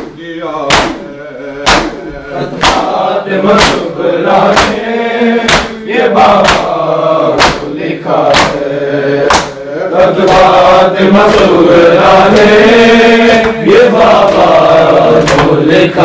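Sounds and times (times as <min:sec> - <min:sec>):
hands beating chests: 0:00.0 - 0:09.6, 0:10.2 - 0:12.6, 0:13.3 - 0:15.8
men chanting in unison: 0:00.0 - 0:16.0.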